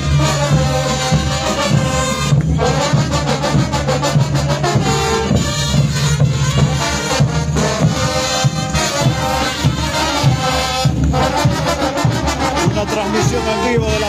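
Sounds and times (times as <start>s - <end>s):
bass drums beating: 0.0s - 14.0s
cymbals: 0.0s - 14.0s
trumpets and trombones: 0.0s - 14.0s.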